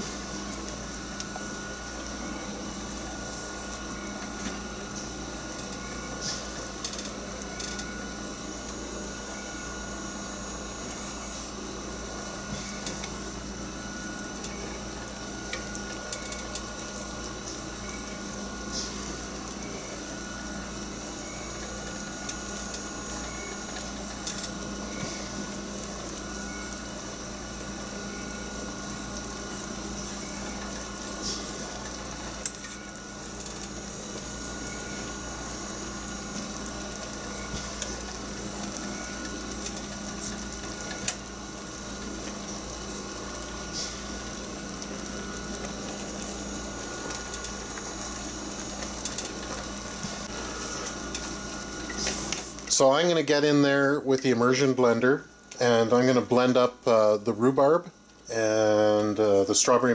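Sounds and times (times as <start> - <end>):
jam bubbling at a boil: 0.0 - 52.8
steady hum: 0.0 - 59.9.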